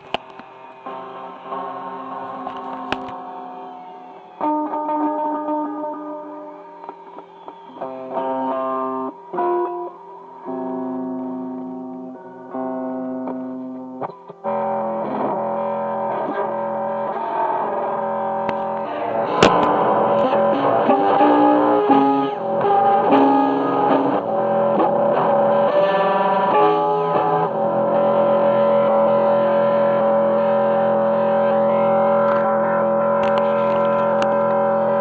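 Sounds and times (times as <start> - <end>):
distorted guitar drone: 0.0 - 35.0.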